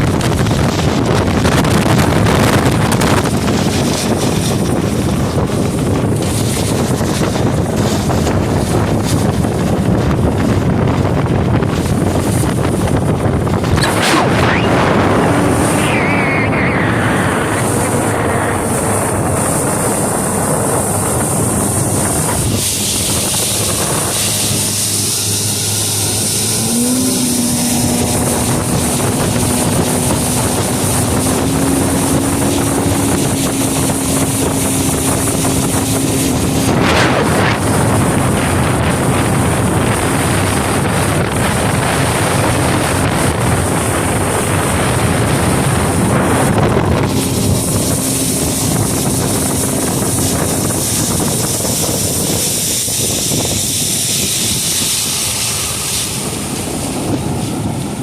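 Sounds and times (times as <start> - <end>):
outboard motor running: 0.0 - 58.0
wind noise on microphone: 0.0 - 58.0.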